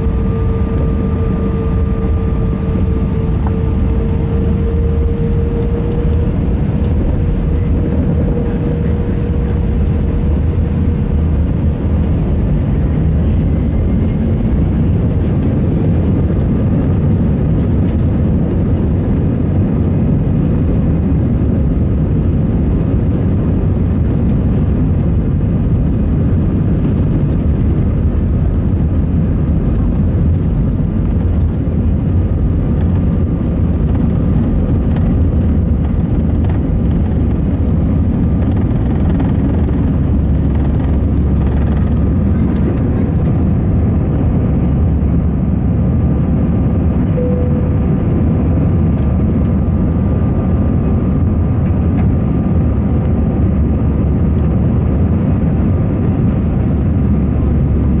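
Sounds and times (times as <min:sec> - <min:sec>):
jet engine low rumble: 0:00.0 - 0:58.0
jet engine whine: 0:00.0 - 0:58.0.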